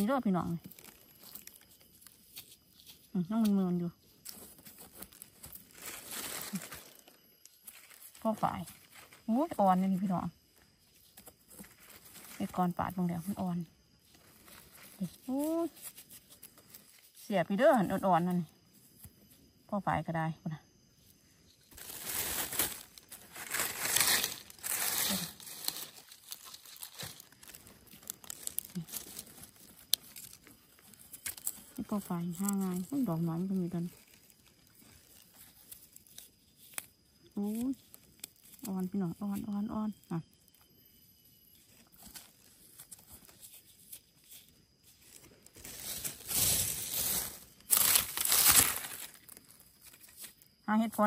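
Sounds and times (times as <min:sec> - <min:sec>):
dry leaves rustling under hand: 0:00.0 - 0:19.2, 0:21.6 - 0:40.6, 0:41.5 - 0:51.0.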